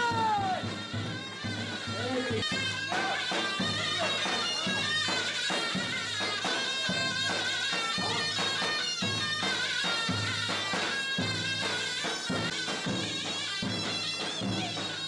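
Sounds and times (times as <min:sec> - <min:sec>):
reedy wind instrument melody: 0:00.0 - 0:15.0
steady drum beat: 0:00.0 - 0:15.0.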